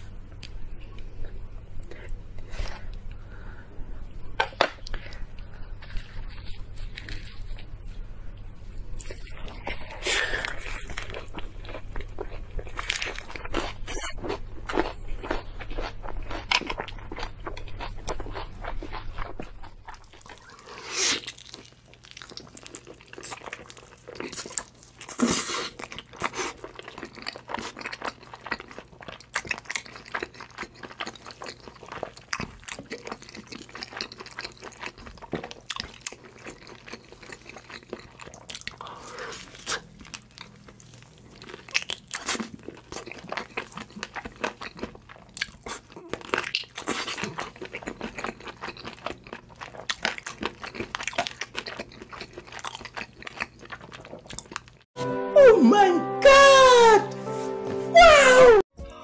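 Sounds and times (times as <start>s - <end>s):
crunchy food being chewed: 4.4s - 54.9s.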